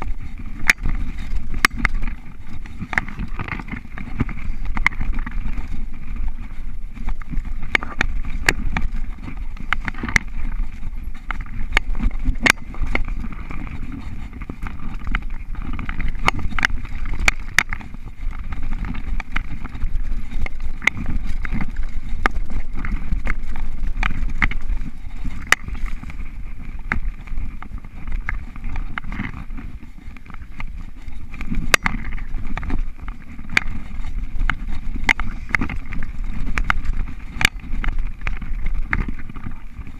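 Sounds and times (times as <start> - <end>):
bike clicks and rattles: 0.0 - 39.9
bike tyres rumbling on dirt: 0.0 - 39.9
wind buffeting: 0.0 - 39.9.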